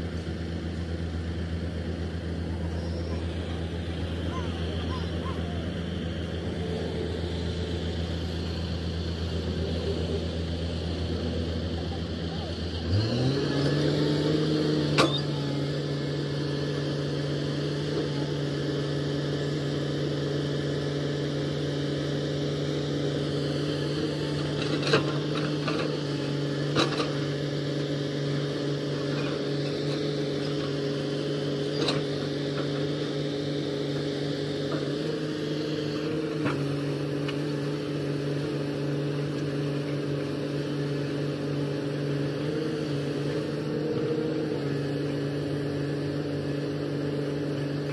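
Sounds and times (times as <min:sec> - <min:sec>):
excavator diesel engine revving: 0:00.0 - 0:47.9.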